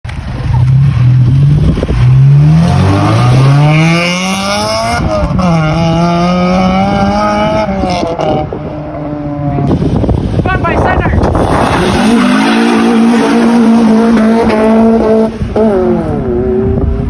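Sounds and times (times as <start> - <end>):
car engine accelerating: 0.1 - 10.0, 11.2 - 17.0.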